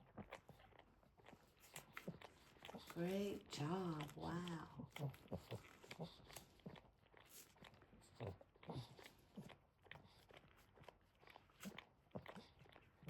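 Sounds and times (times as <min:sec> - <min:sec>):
dog licking puppies: 0:00.0 - 0:13.0.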